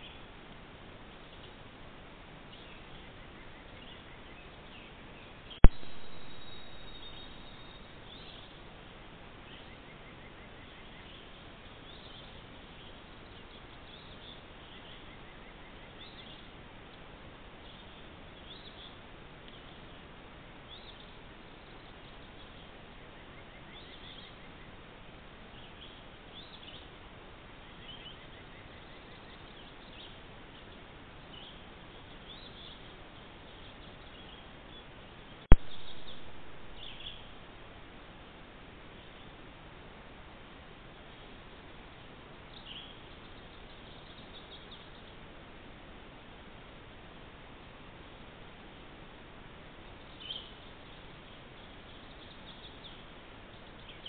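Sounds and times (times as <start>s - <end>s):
microphone hiss: 0.0s - 54.0s
birds chirping: 2.3s - 37.6s, 40.9s - 45.4s, 49.7s - 54.0s.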